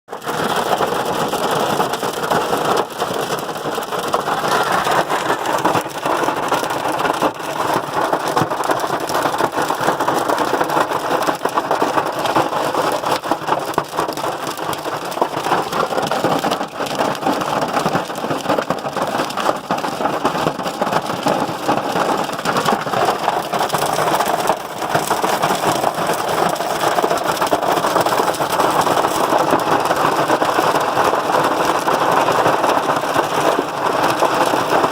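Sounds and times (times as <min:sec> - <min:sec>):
hailstones pelting a hard surface: 0:00.1 - 0:34.9.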